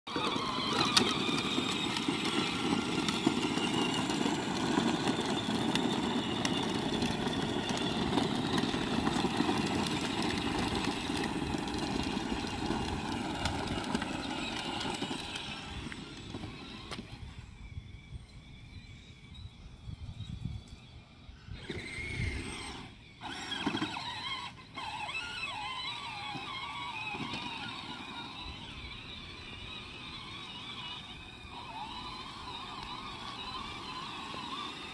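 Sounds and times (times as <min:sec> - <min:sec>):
plastic wheels rumbling: 0:00.1 - 0:19.1, 0:20.4 - 0:34.9
toy tractor motor whining: 0:00.1 - 0:34.9.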